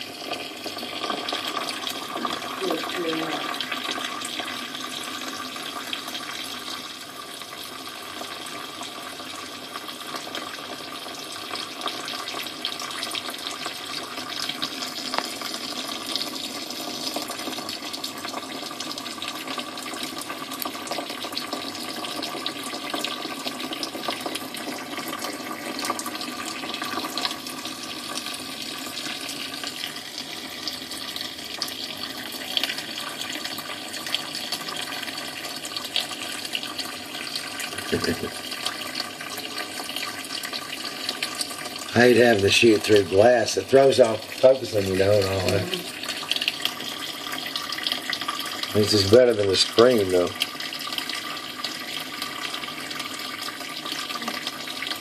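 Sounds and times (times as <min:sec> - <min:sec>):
rain and running water: 0:00.0 - 0:55.0.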